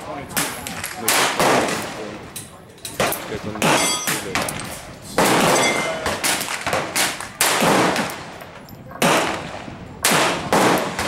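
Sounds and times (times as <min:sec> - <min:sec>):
pistol shots: 0:00.3 - 0:02.1, 0:03.0 - 0:11.0.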